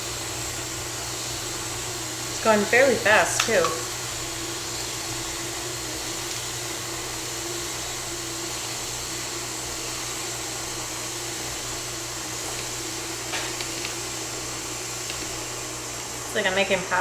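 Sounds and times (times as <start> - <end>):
stand mixer motor running: 0.0 - 17.0.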